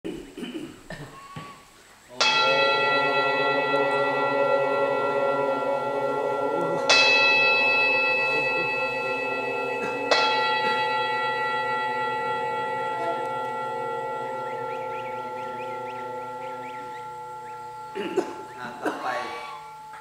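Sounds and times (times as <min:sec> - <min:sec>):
metal bell ringing: 0:02.2 - 0:20.0.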